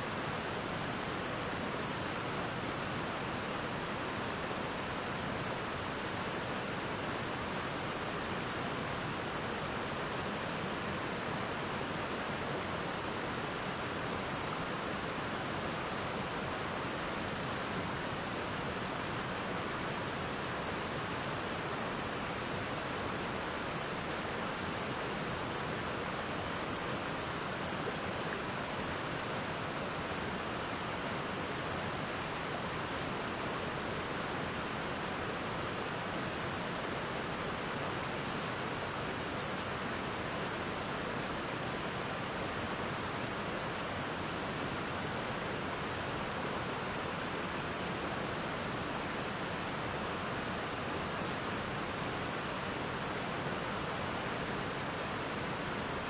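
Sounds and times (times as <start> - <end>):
water rushing through rapids: 0.0 - 56.0.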